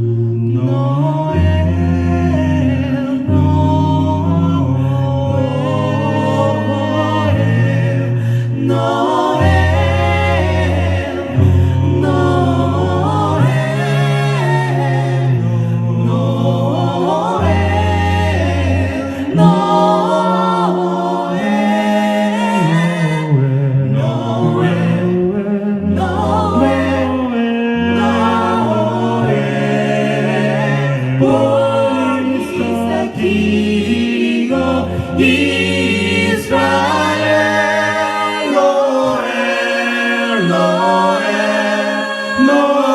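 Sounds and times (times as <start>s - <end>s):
a cappella group singing: 0.0s - 42.9s.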